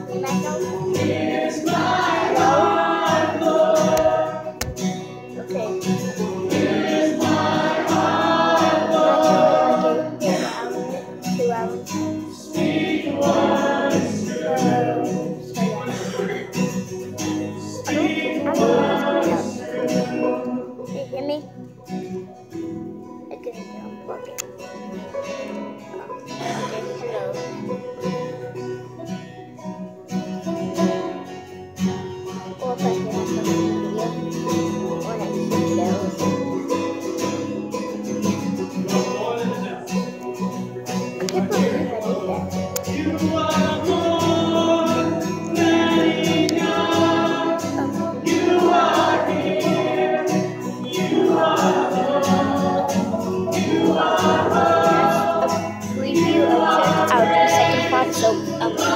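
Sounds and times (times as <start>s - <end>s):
group singing: 0.0s - 20.9s, 30.2s - 32.1s, 33.5s - 58.9s
guitar song: 0.0s - 58.9s.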